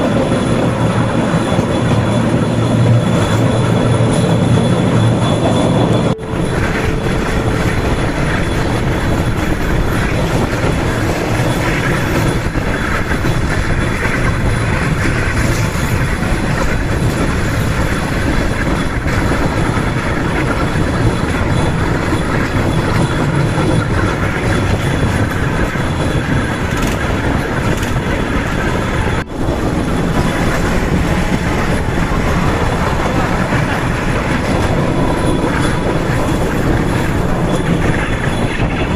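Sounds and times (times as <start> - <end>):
wheels on rails: 0.0 - 38.9.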